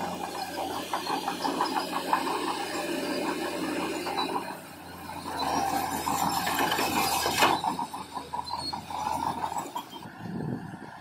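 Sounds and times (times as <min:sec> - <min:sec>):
diesel engine hum: 0:00.0 - 0:11.0
steel tracks clanking and squealing: 0:00.0 - 0:11.0.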